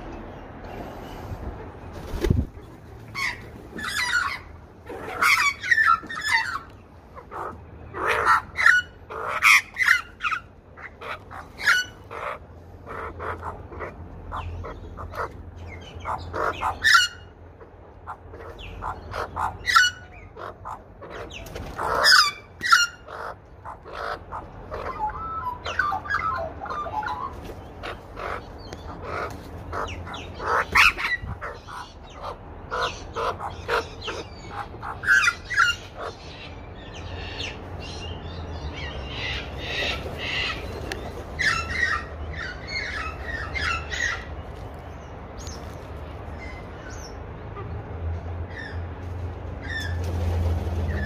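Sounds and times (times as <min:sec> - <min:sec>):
magpies calling: 0:03.0 - 0:48.9, 0:49.6 - 0:51.0.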